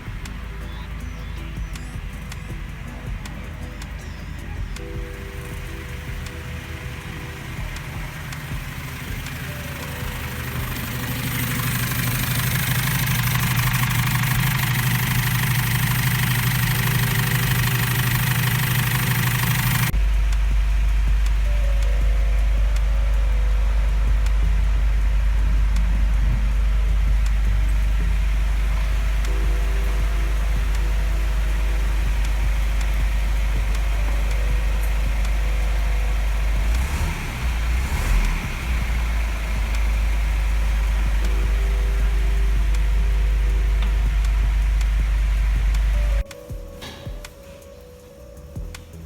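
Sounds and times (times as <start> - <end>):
diesel engine idling: 0.0 - 47.8
deep steady hum: 0.0 - 49.0.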